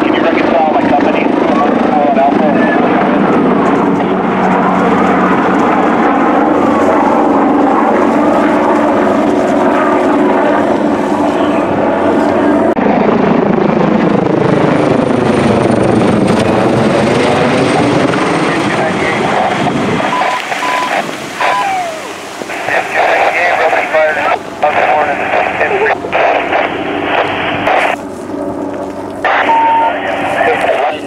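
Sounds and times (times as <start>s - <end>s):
helicopter flying overhead: 0.0s - 31.0s.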